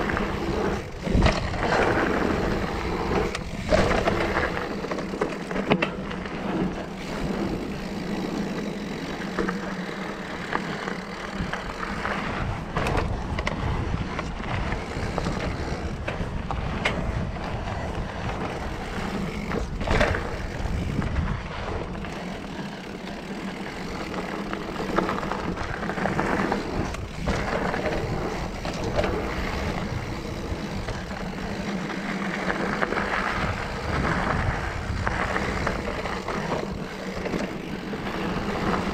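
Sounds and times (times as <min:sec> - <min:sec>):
bike knocking and rattling: 0:00.0 - 0:38.9
bike tyres rolling on dirt: 0:00.0 - 0:38.9
wind: 0:00.0 - 0:38.9.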